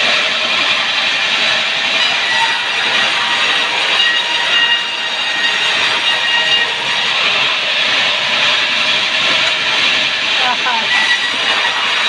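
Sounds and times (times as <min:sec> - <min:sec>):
sawmill saw cutting log: 0:00.0 - 0:12.0.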